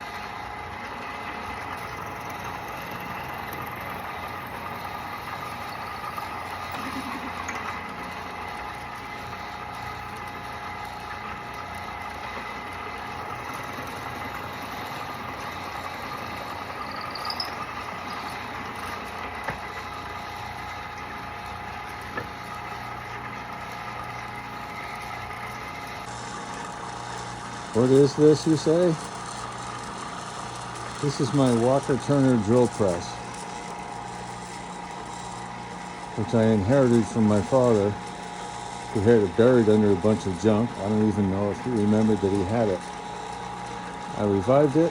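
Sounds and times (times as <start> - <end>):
drill press motor humming: 0.0 - 44.9.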